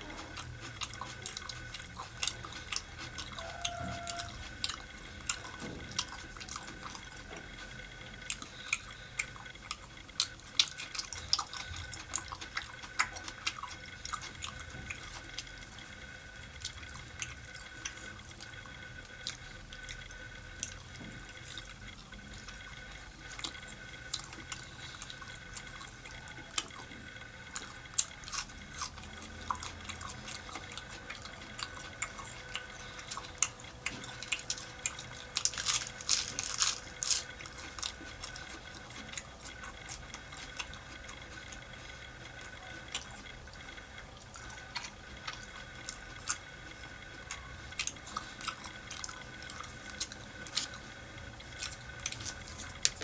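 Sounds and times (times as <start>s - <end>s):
wet chewing clicks and smacks: 0.0s - 53.0s.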